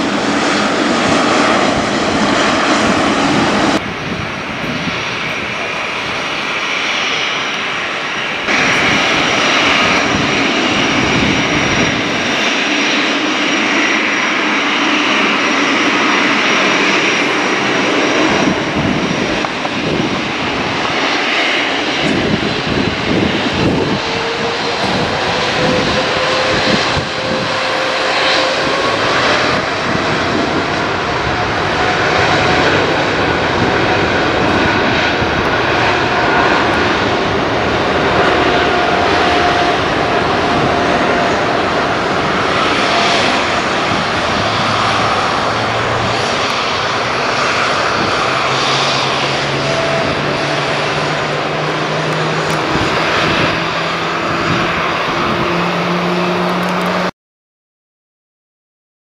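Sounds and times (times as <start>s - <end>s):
jet engines roaring: 0.0s - 57.1s.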